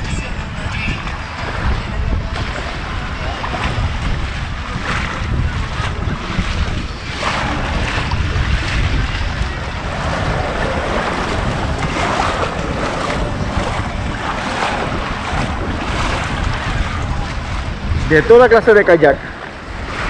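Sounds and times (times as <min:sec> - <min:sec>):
wind buffeting microphone: 0:00.0 - 0:20.0
small waves lapping on shore: 0:00.7 - 0:20.0.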